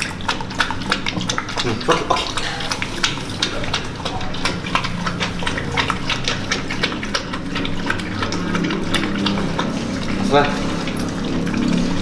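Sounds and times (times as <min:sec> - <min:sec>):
dogs lapping milk: 0:00.0 - 0:12.0.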